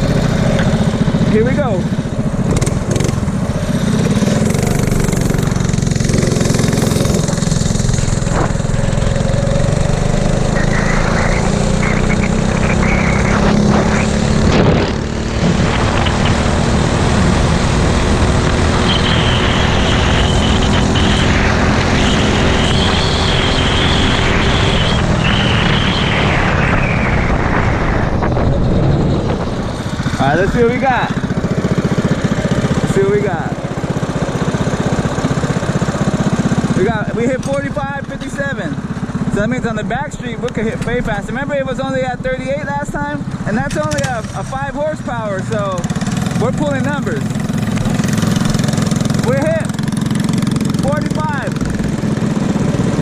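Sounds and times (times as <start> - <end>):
mini bike engine at high revs: 0.0 - 28.3, 29.2 - 40.7, 43.3 - 44.8, 45.4 - 53.0.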